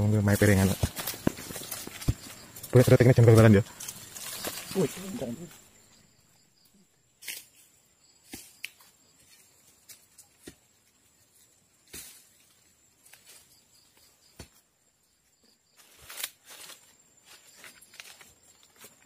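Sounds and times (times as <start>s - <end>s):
leaves and twigs rustling and snapping: 0.2s - 5.7s, 7.2s - 14.6s, 15.7s - 19.0s.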